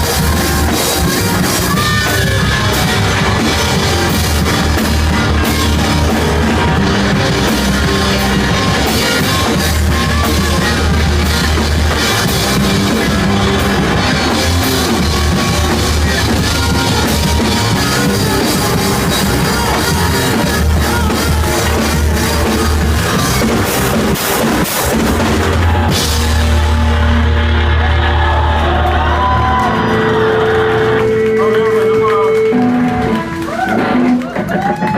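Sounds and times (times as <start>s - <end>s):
drum kit beat: 0.0s - 34.9s
rock band playing live: 0.0s - 34.9s.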